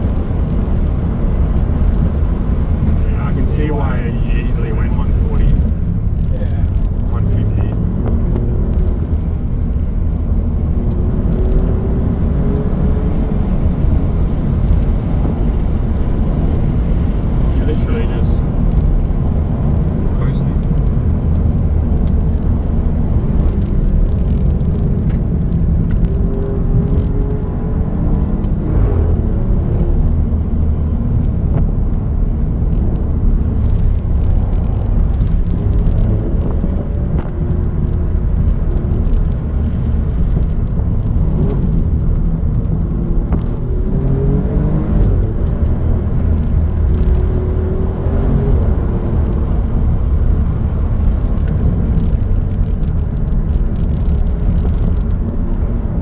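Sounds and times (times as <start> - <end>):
car engine revving: 0.0 - 56.0
low road rumble: 0.0 - 56.0.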